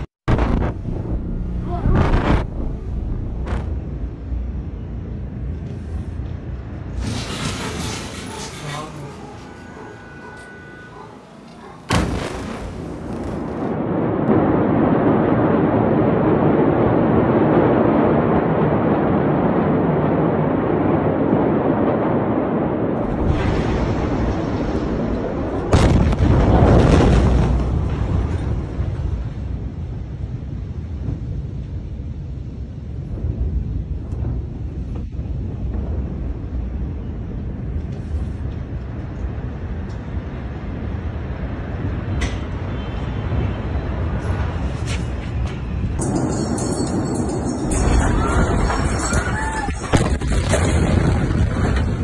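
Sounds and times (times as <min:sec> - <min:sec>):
explosion rumbling roar: 0:00.0 - 0:05.6, 0:11.9 - 0:44.6, 0:45.9 - 0:52.0.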